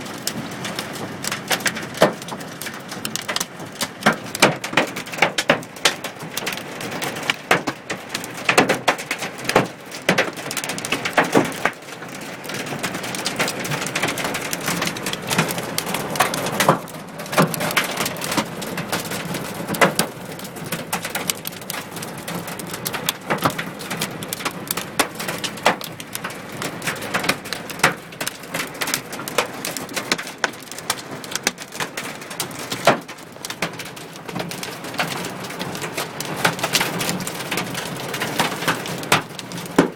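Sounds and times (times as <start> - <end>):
hail and rain on car roof: 0.0 - 39.9.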